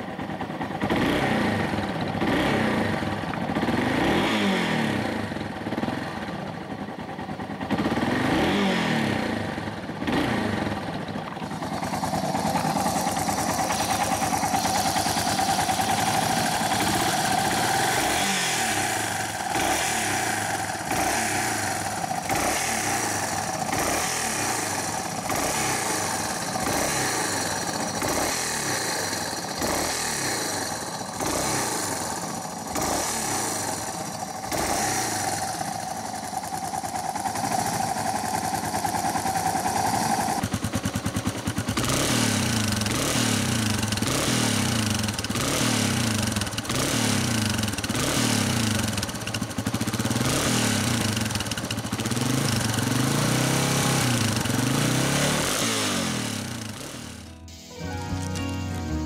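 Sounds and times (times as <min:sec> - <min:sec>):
motorcycle engine revving: 0:00.0 - 0:57.4.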